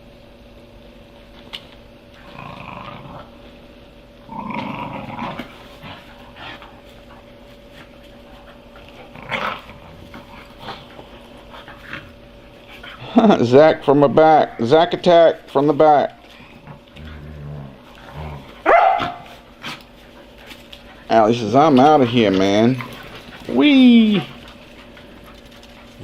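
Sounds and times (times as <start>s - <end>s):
dogs growling: 2.1s - 26.0s.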